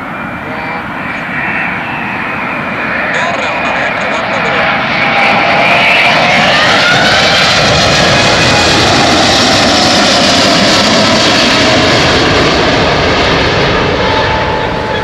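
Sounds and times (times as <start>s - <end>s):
jet engines at high thrust: 0.0s - 15.0s.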